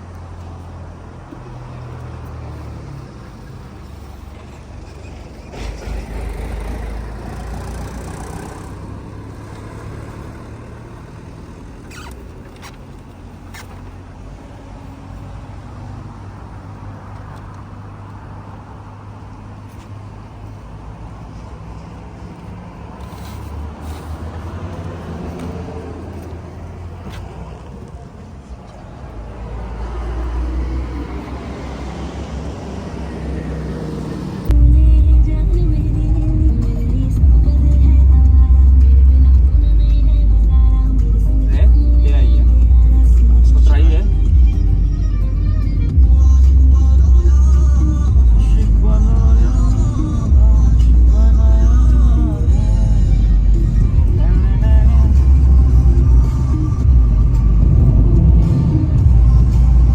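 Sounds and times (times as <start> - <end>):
car engine and road hum: 0.0 - 59.9.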